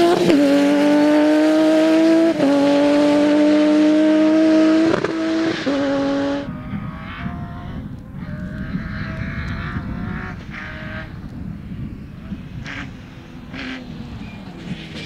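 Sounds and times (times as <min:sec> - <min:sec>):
rally car engine at high revs: 0:00.0 - 0:08.0, 0:08.6 - 0:15.0
distant car engine: 0:00.0 - 0:15.0.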